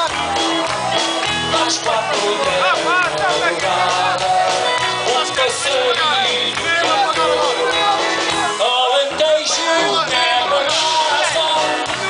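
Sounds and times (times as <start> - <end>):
live band playing dance music: 0.0 - 12.0
repeating bass beat: 0.0 - 12.0.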